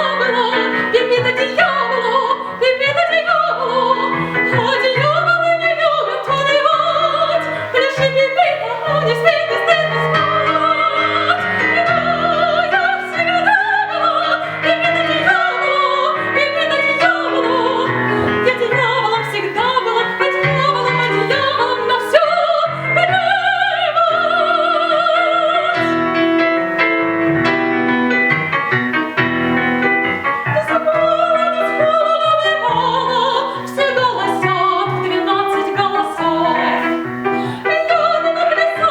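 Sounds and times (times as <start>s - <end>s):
woman singing operatically: 0.0s - 26.4s, 30.3s - 38.9s
piano accompaniment: 0.0s - 38.9s.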